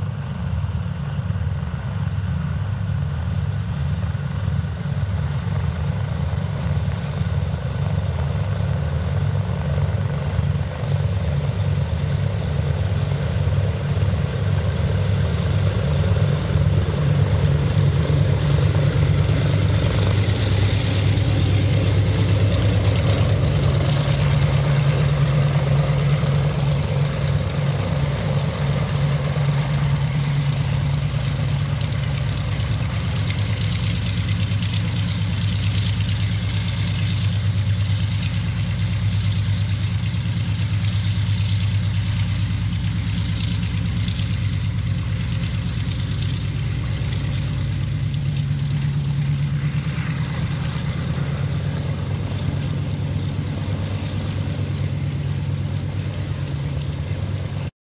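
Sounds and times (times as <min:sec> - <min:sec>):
propeller aircraft engines droning: 0:00.0 - 0:57.7.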